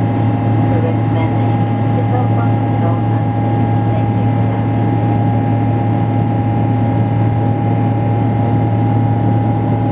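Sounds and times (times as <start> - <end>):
jet engine cabin drone: 0.0 - 9.9
thin steady whine: 0.0 - 9.9.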